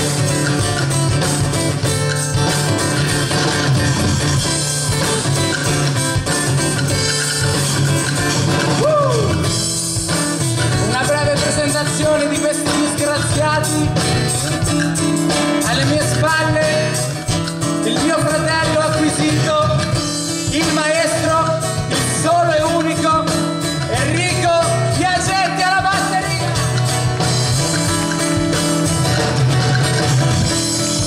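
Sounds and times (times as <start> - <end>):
drum kit beat: 0.0 - 31.0
strummed acoustic guitar: 0.0 - 31.0.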